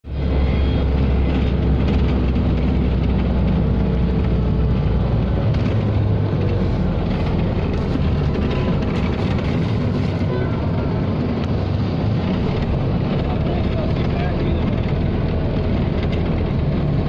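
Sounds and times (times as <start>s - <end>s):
engine and road rumble: 0.0s - 17.0s.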